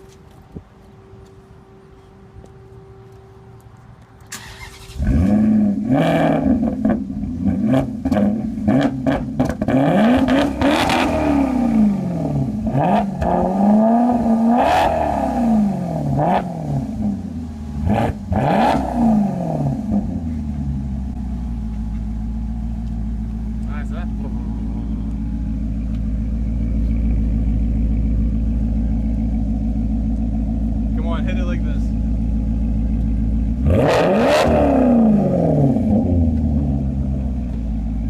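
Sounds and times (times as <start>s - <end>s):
car engine revving: 4.2s - 38.0s.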